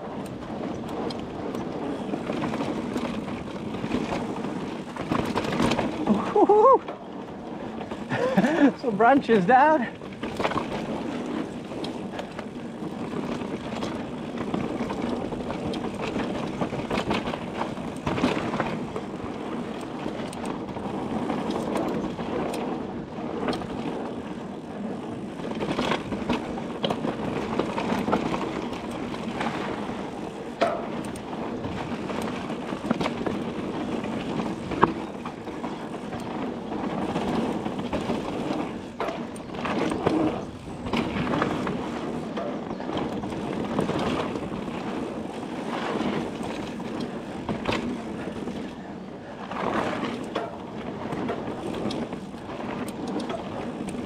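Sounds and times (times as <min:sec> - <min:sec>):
bike tyres rumbling on dirt: 0:00.0 - 0:54.0.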